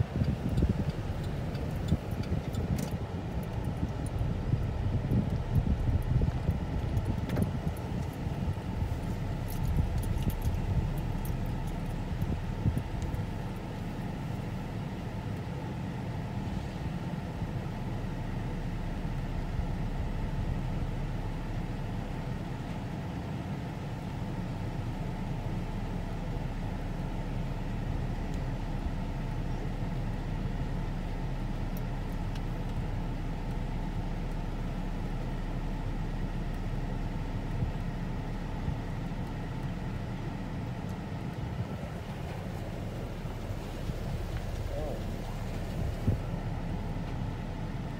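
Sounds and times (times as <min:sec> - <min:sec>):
low engine rumble: 0:00.0 - 0:47.9.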